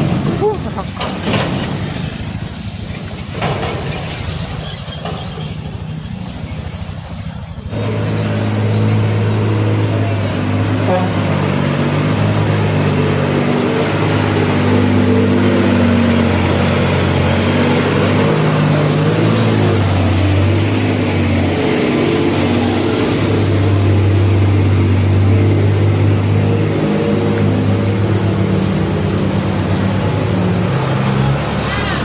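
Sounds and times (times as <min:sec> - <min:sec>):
truck diesel engine drone: 0:00.0 - 0:32.0.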